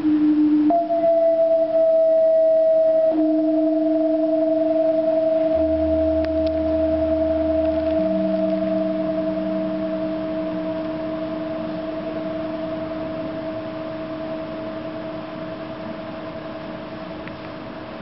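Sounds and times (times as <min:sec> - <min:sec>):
ringing gong tone: 0:00.0 - 0:17.2
lower tone: 0:00.0 - 0:17.4.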